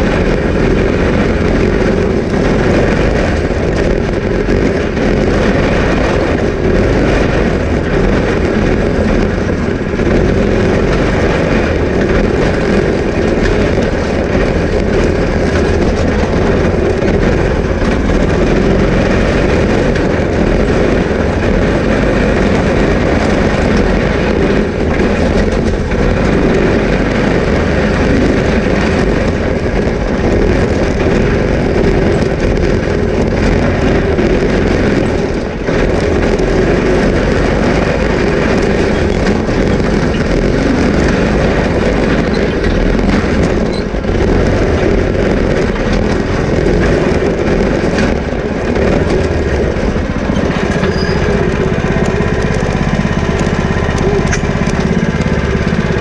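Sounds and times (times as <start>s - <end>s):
go-kart engine running: 0.0s - 56.0s
rattling: 0.0s - 56.0s
road noise: 0.0s - 56.0s.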